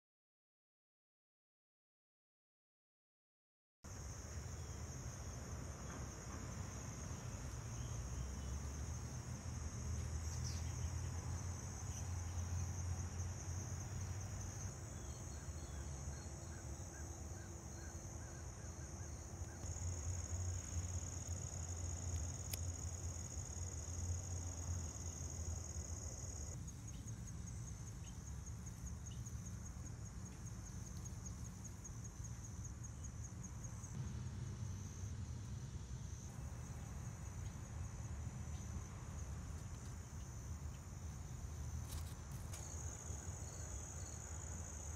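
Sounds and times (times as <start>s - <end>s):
insects buzzing: 3.9s - 44.9s.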